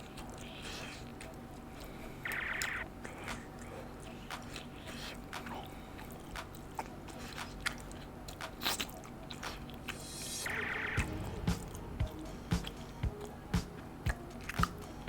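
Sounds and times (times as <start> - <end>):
soft food sounds: 0.0 - 15.0.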